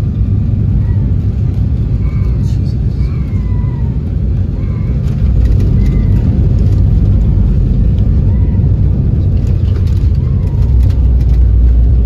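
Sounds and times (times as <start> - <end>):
low rumble of engines and wheels: 0.0 - 12.0.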